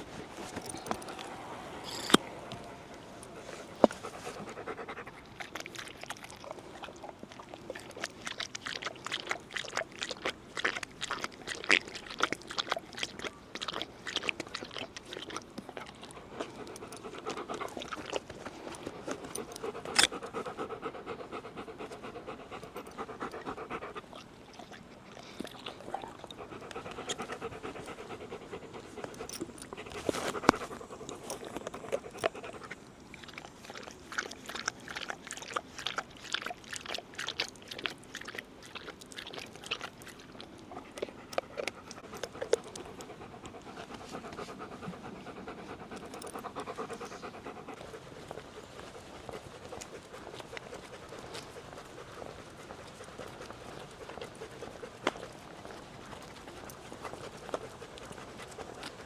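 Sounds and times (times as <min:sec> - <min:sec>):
dog panting: 0:00.0 - 0:10.4, 0:11.0 - 0:59.0.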